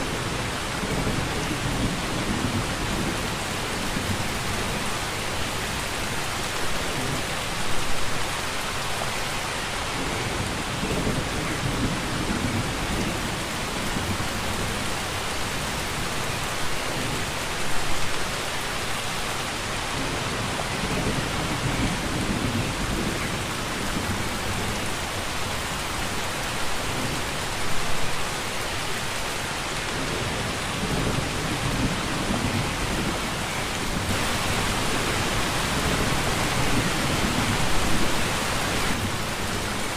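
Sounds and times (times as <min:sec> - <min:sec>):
thunder rumbling: 0:00.0 - 0:07.8, 0:09.8 - 0:17.4, 0:19.9 - 0:27.7, 0:29.8 - 0:39.9
steady rain hiss: 0:00.0 - 0:39.9.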